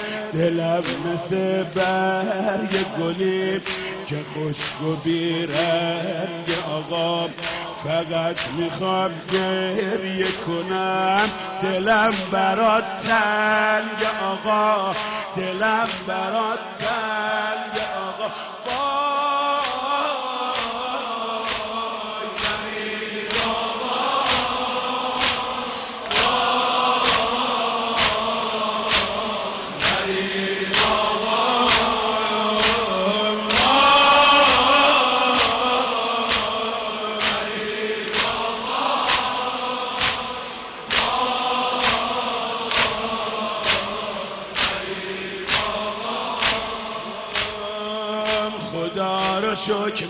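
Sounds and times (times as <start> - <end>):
chorus of voices chanting: 0.0 - 50.0
steady percussive beat: 0.0 - 50.0.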